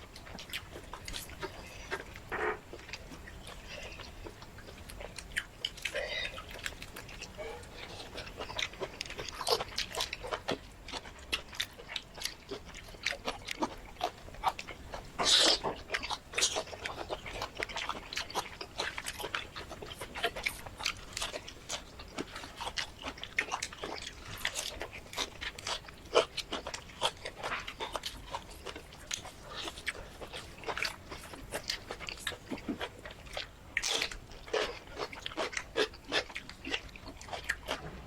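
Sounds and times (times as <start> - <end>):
chewing and crunching food: 0.0 - 38.0.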